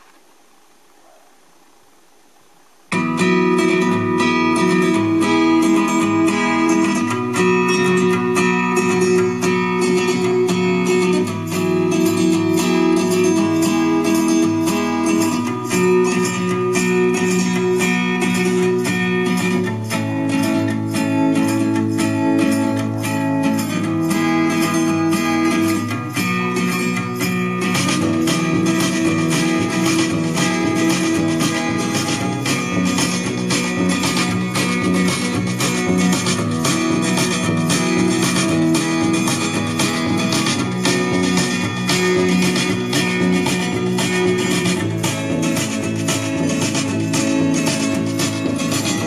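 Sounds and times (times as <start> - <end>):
strummed guitar chords: 2.8 - 49.0.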